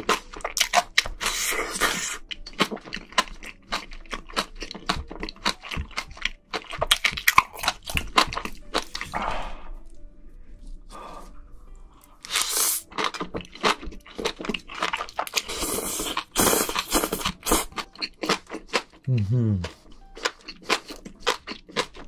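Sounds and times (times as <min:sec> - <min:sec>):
chewing with wet mouth clicks: 0:00.0 - 0:09.2, 0:12.3 - 0:22.0.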